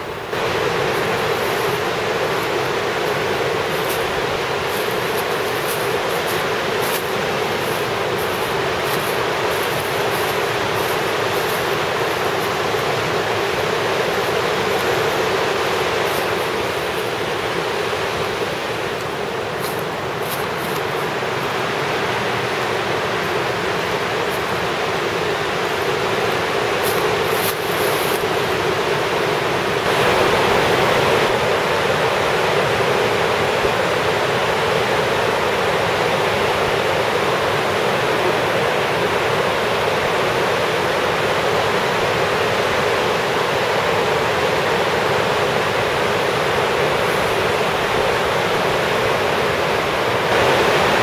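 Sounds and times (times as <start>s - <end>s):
river rapids rushing: 0.0s - 51.0s.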